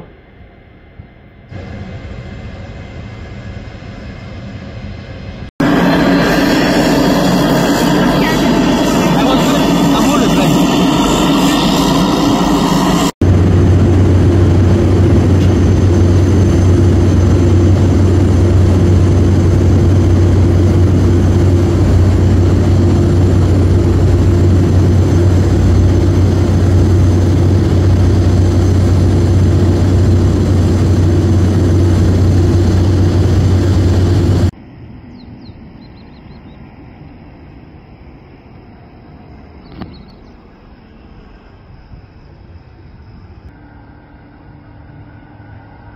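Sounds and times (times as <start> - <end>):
aircraft engine drone: 0.0 - 45.9
turboprop plane taxiing: 0.0 - 45.9.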